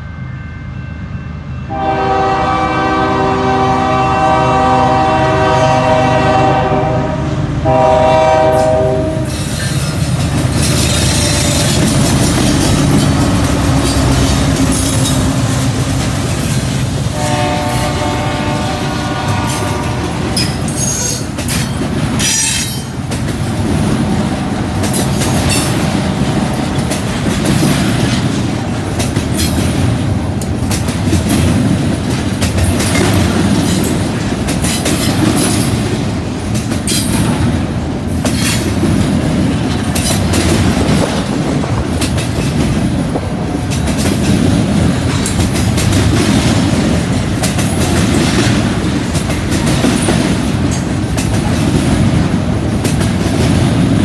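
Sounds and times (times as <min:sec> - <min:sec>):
freight train rumble: 0:00.0 - 0:54.0
train wheels clacking on track: 0:03.1 - 0:54.0.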